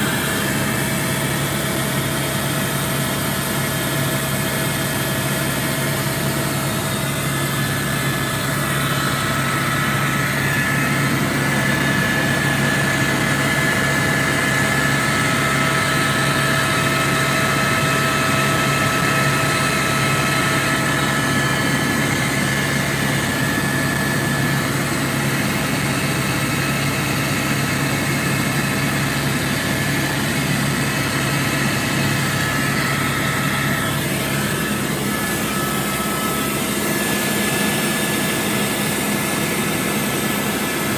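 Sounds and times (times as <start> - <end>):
held whining tones: 0.0 - 40.9
helicopter engine and rotor drone: 0.0 - 40.9.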